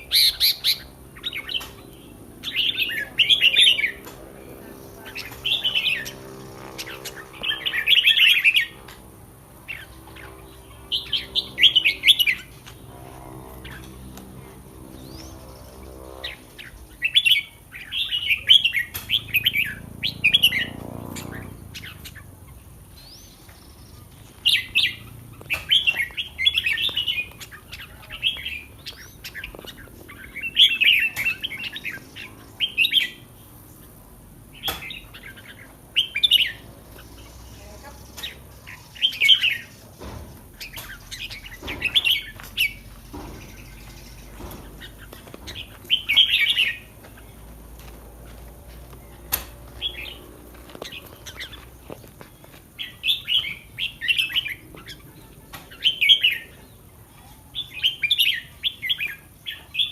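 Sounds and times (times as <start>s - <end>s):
bird singing warbling phrases: 0.0s - 47.7s, 48.4s - 59.9s.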